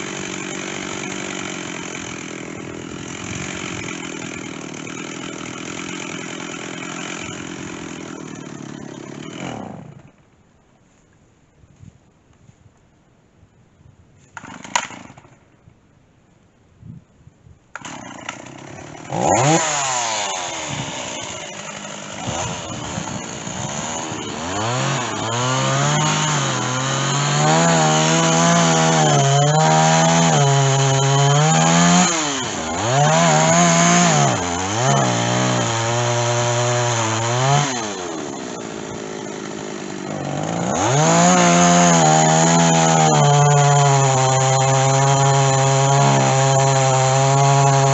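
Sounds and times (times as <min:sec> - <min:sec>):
chainsaw cutting wood: 0:00.0 - 0:10.2, 0:14.2 - 0:15.4, 0:17.7 - 0:47.9.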